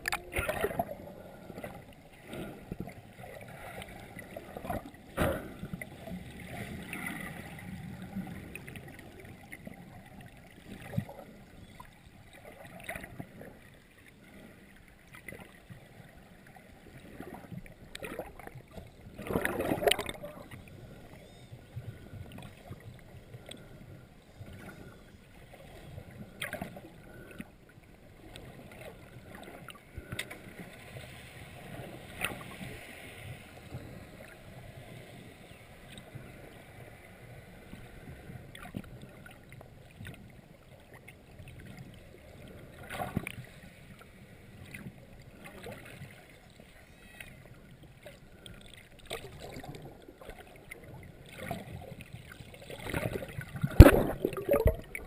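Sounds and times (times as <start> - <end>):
muffled water sloshing and gurgling: 0.0 - 55.0.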